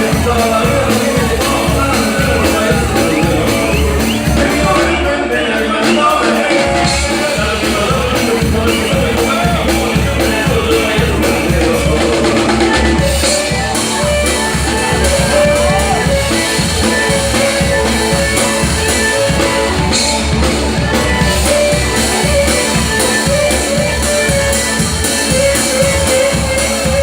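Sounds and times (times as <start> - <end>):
amplified guitar: 0.0 - 27.0
drum kit steady beat: 0.0 - 27.0.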